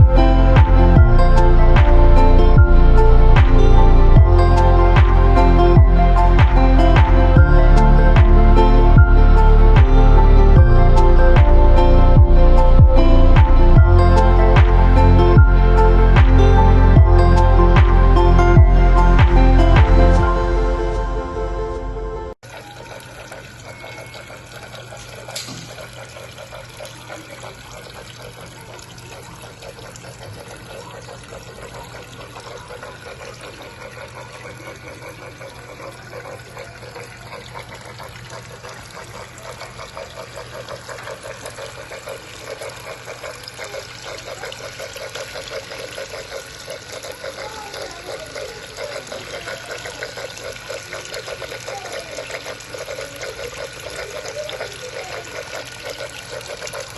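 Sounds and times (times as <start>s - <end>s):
water trickling in fountain: 0.0s - 20.3s, 22.4s - 56.9s.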